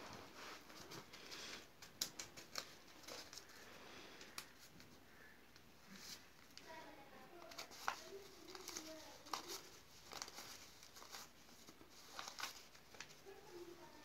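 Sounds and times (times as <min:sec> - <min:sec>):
banknotes rustling: 0:00.0 - 0:14.0.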